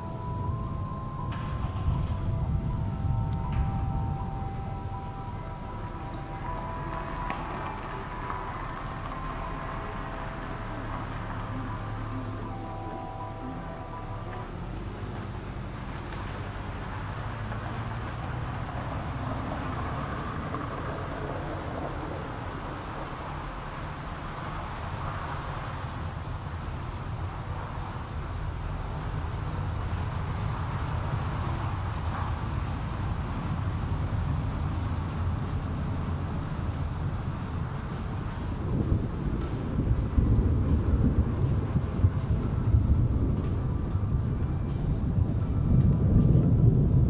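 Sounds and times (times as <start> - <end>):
insects chirring: 0.0 - 47.0
low rumbling noise: 0.0 - 47.0.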